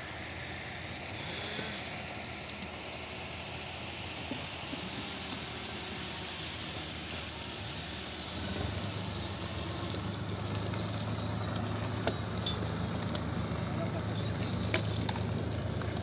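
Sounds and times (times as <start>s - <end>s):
steady hiss: 0.0s - 16.0s
tractor diesel engine running: 0.0s - 16.0s.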